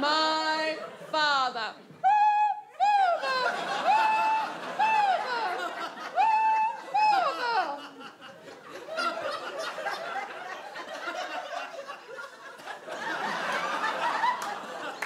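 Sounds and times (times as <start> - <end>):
audience laughing: 2.9 - 15.0.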